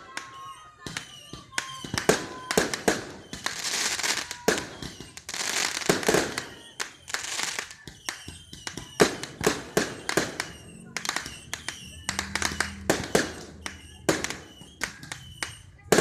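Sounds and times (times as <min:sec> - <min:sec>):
fireworks bangs and pops: 0:00.0 - 0:16.0
fireworks crackling hiss: 0:01.0 - 0:16.0.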